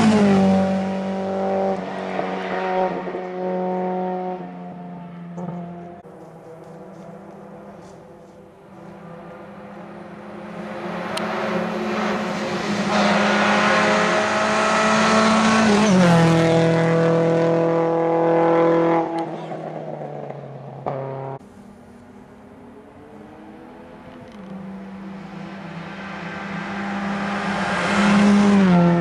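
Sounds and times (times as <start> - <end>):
rally car engine passing by: 0.0 - 29.0.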